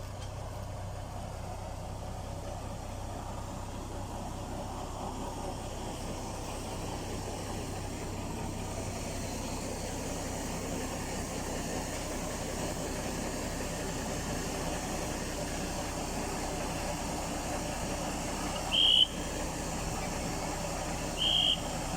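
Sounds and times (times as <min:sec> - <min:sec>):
diesel locomotive engine drone: 0:00.0 - 0:21.9.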